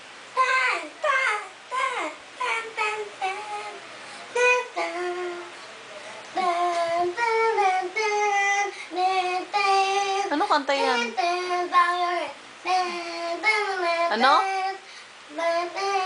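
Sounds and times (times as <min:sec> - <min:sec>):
boy singing unaccompanied: 0:00.4 - 0:05.6, 0:06.3 - 0:16.0.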